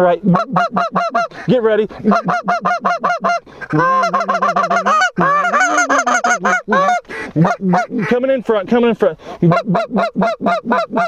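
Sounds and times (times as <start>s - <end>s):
goose call honks and clucks: 0.0s - 8.4s, 9.3s - 11.0s.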